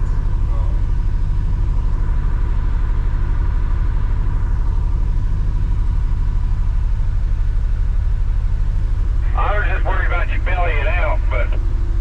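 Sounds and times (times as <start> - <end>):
faint steady whine: 0.0 - 12.0
utility vehicle engine rumbling: 0.0 - 12.0.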